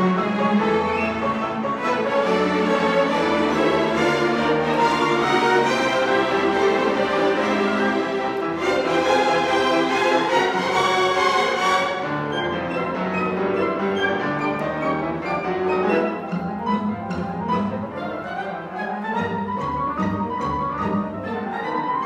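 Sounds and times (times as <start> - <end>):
orchestra playing classical piece: 0.0 - 22.0.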